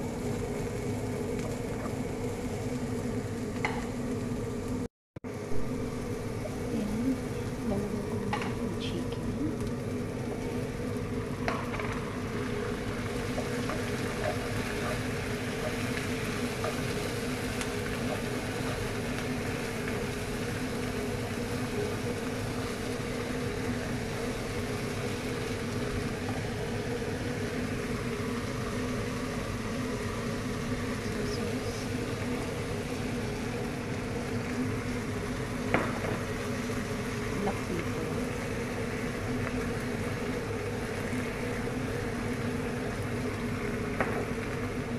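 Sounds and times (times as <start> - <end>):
low hum: 0.0 - 43.7
food sizzling in a pan: 0.0 - 44.9.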